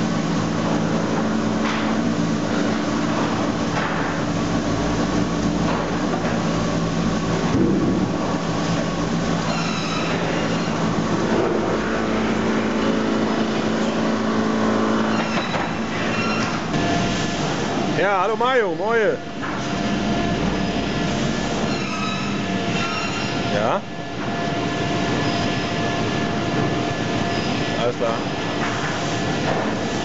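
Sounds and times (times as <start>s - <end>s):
conveyor mechanical hum: 0.0s - 30.0s.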